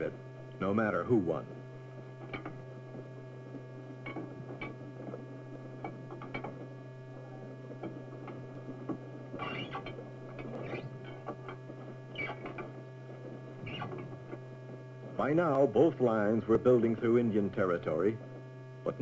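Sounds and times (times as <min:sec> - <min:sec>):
faint clicks and crackle: 0:00.0 - 0:19.0
steady soundtrack hum: 0:00.0 - 0:19.0.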